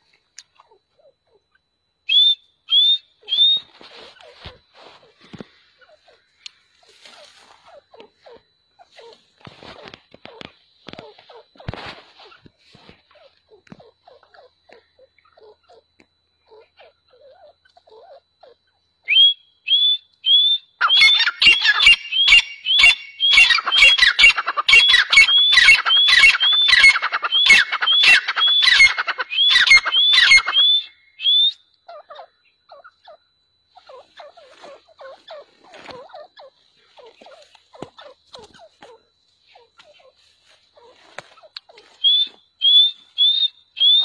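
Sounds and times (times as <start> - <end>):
francolins calling: 0.0 - 44.0.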